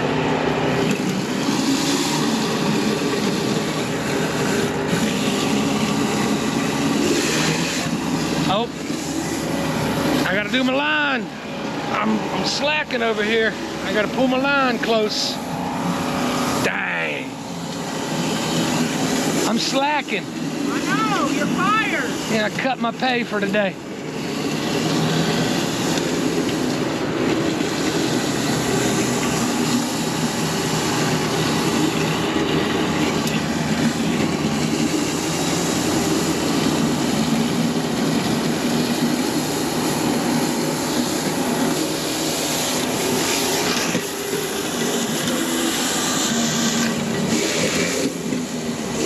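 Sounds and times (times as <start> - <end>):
high-pressure water jet hissing: 0.0 - 49.0
pressure washer engine hum: 0.0 - 49.0.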